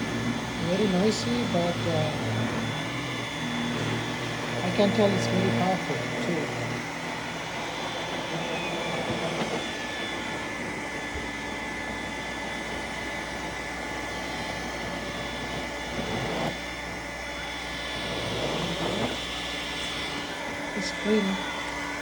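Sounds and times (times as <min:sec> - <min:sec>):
robot vacuum suction motor: 0:00.0 - 0:22.0.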